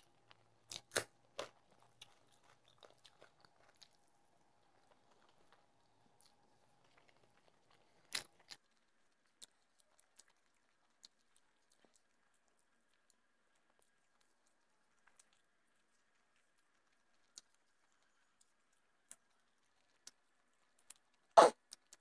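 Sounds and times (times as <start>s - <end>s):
quiet chewing: 0.0s - 22.0s.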